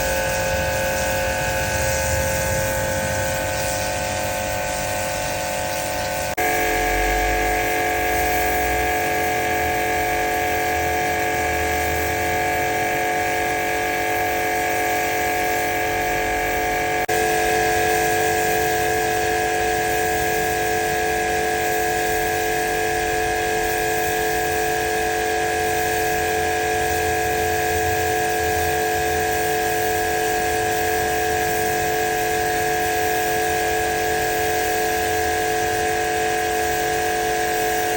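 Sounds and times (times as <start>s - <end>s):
pressure washer whine: 0.0s - 37.9s.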